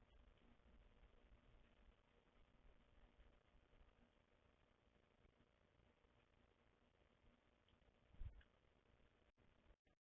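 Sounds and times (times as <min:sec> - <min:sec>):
faint low rumble and hiss: 0:00.0 - 0:10.0.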